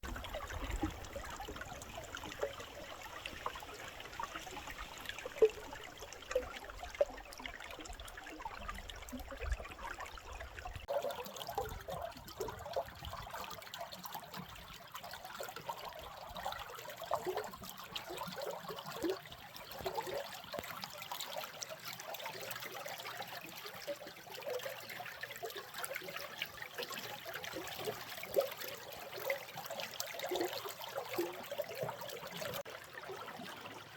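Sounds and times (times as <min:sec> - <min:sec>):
stream babbling: 0:00.0 - 0:33.9.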